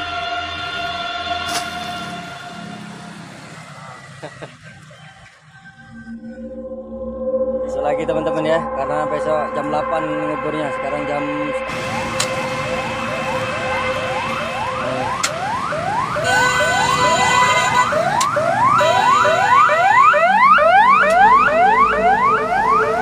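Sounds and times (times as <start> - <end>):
emergency siren wailing: 0.0 - 23.0.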